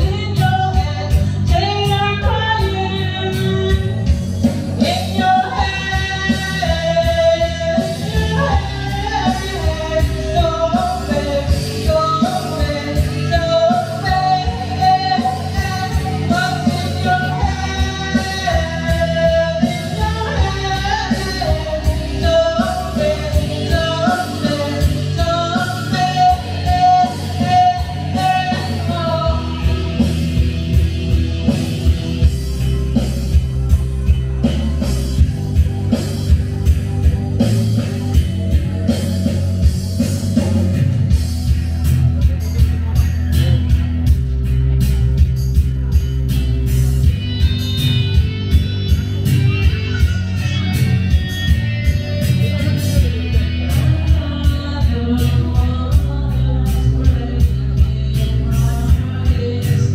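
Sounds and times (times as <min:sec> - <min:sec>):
person singing: 0:00.0 - 0:59.9
rock band guitar and drums: 0:00.0 - 0:59.9.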